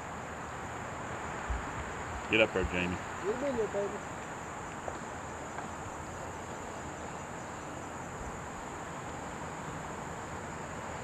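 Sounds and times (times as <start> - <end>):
background hiss: 0.0 - 11.0
insects chirping chorus: 0.0 - 11.0.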